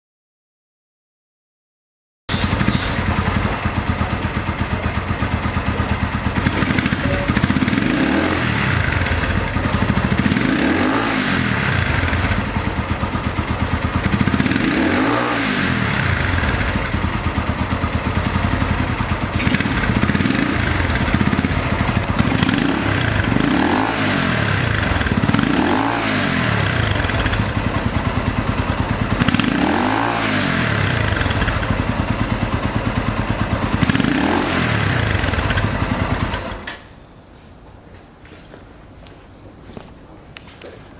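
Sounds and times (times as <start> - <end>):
motorcycle engine idling and revving: 2.3 - 36.8.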